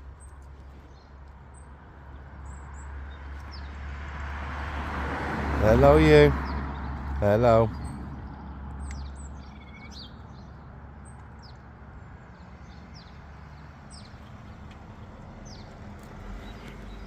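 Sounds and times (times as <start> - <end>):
sparrows chirping: 0.0 - 4.5, 5.5 - 17.0.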